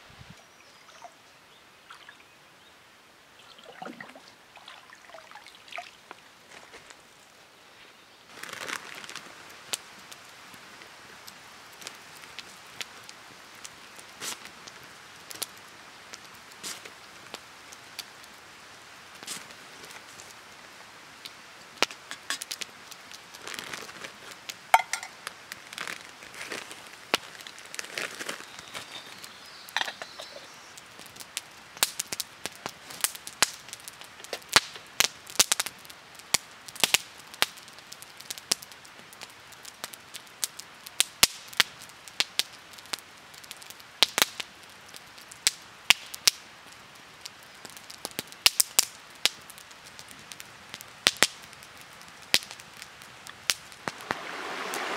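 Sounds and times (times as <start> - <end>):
campfire crackling and popping: 8.3 - 54.9.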